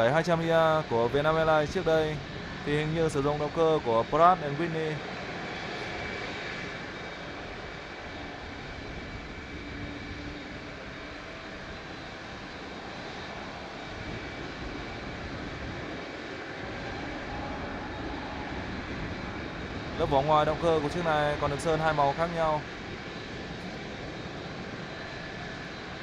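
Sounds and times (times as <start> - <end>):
faint high whine: 0.0 - 26.0
jet engine noise: 0.0 - 26.0.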